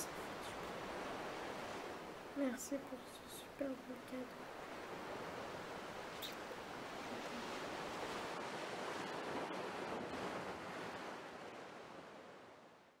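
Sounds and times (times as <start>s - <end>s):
sea waves washing in: 0.0s - 12.9s.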